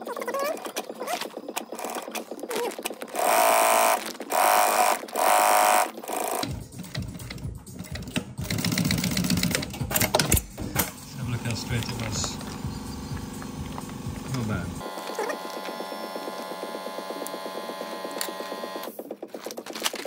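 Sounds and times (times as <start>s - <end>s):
sewing machine stitching: 0.5s - 10.2s, 10.8s - 19.1s.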